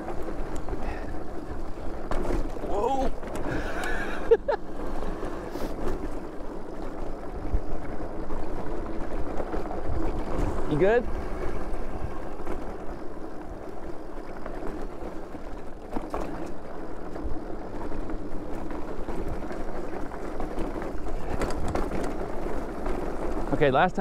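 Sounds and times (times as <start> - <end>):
bike rattles and knocks: 0.0 - 24.0
tyres rumbling on dirt: 0.0 - 24.0.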